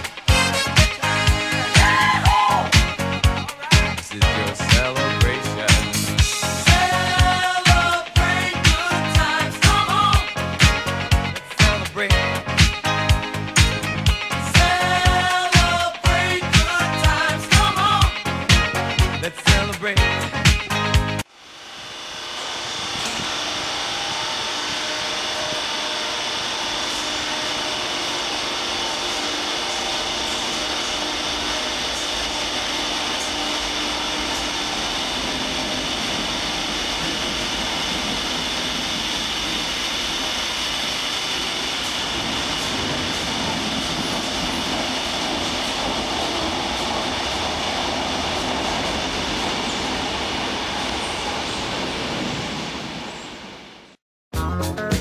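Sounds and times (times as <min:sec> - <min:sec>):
electric train rumble and hiss: 0:00.0 - 0:54.0
low hum: 0:00.0 - 0:54.0.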